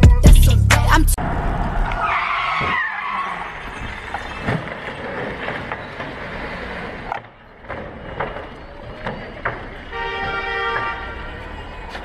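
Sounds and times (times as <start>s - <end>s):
road and engine noise: 0.6s - 12.0s.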